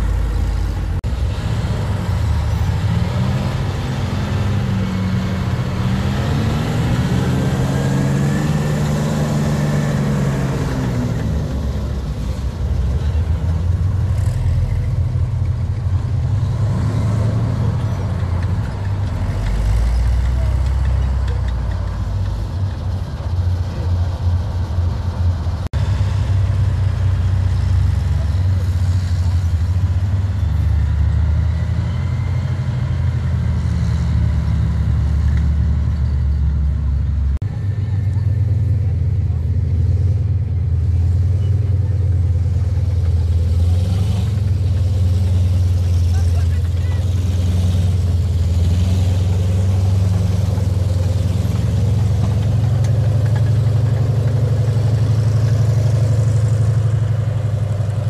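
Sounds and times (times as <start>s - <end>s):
tank engine rumbling: 0.0s - 58.0s.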